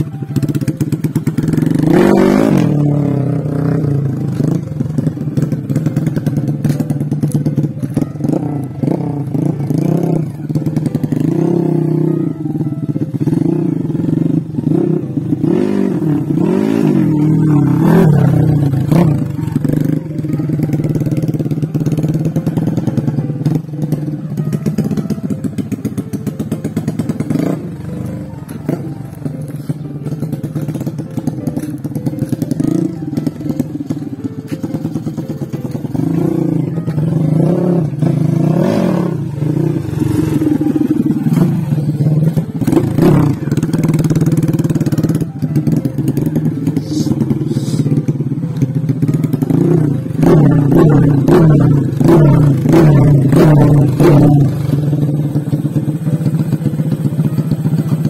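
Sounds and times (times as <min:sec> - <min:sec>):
dirt bike engine revving: 0:00.4 - 0:12.3, 0:13.1 - 0:23.6, 0:24.7 - 0:56.7.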